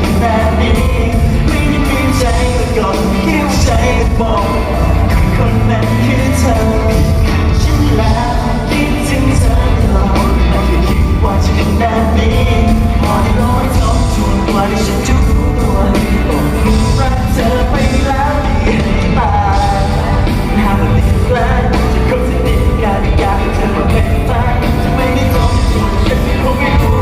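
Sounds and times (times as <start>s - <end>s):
pop song with singing: 0.0s - 27.0s
steady beat: 0.0s - 27.0s.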